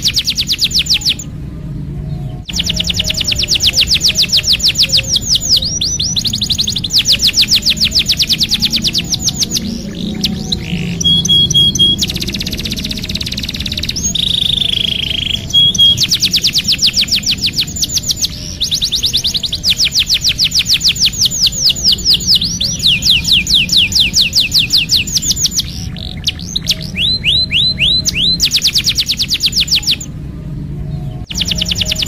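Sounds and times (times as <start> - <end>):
canary singing trills: 0.0 - 32.0.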